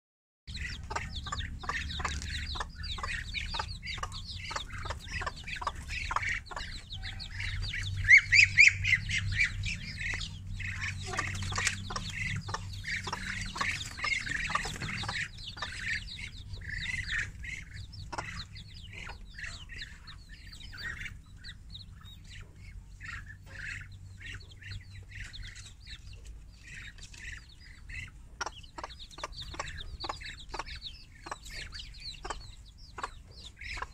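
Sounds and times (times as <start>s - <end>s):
chicks peeping: 0.5s - 33.9s
hen clucking: 0.5s - 33.9s.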